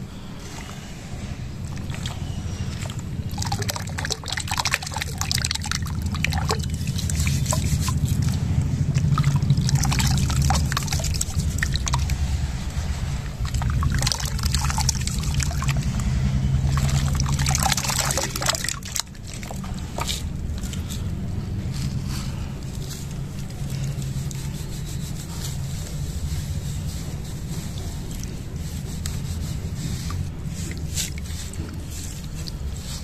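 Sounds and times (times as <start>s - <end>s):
steady low rumble: 0.0s - 33.0s
water splashing and dribbling: 0.1s - 33.0s
hands swishing chunks in water: 1.6s - 33.0s.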